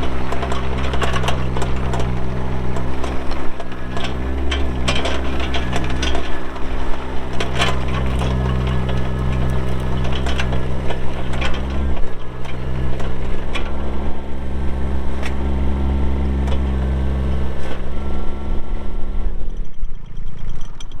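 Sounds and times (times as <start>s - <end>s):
metallic clanks and knocks: 0.0s - 17.8s
diesel engine running: 0.0s - 21.0s.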